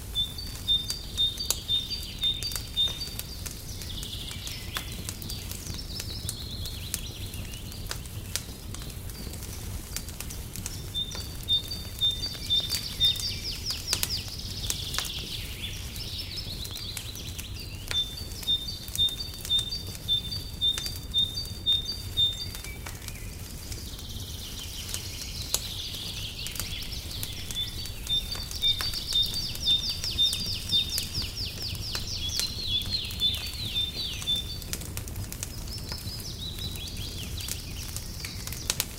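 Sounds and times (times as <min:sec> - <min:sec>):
fire crackling: 0:00.0 - 0:38.9
birdsong trills: 0:00.1 - 0:38.9.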